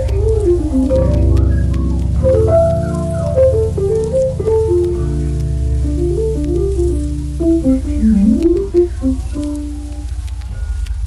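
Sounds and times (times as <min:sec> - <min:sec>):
melodic music with pulsing bass: 0:00.0 - 0:10.2.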